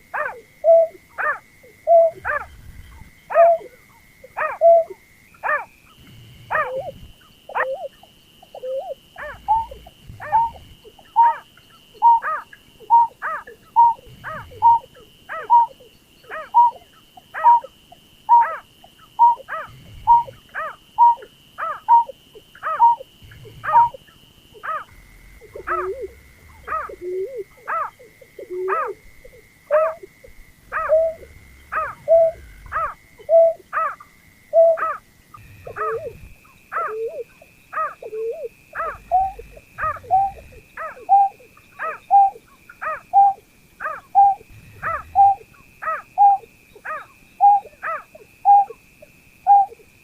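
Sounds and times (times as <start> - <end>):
bird calling with sharp notes: 0.2 - 48.8, 49.4 - 49.8.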